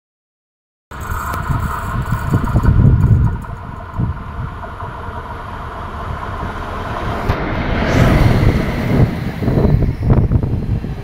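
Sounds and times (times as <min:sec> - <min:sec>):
diesel locomotive engine running: 0:00.9 - 0:11.0.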